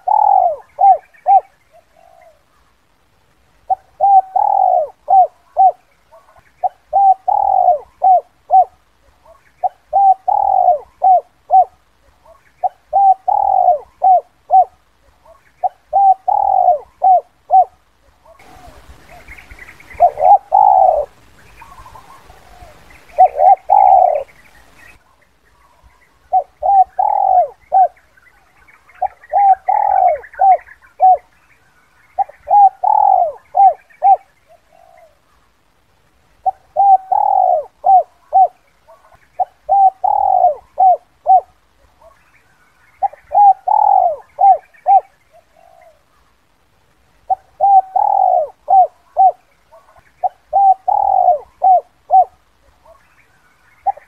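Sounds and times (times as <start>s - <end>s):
dove cooing: 0.0s - 2.7s, 3.6s - 31.4s, 32.1s - 35.4s, 36.4s - 42.2s, 42.8s - 46.3s, 47.2s - 54.0s.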